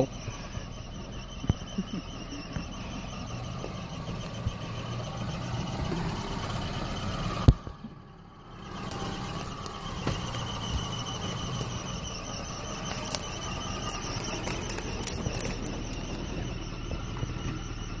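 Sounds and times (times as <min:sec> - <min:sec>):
car engine running at low speed: 0:00.0 - 0:18.0
faint steady high whine: 0:00.0 - 0:18.0
sharp clicks and crackles: 0:00.1 - 0:07.9, 0:08.6 - 0:17.7.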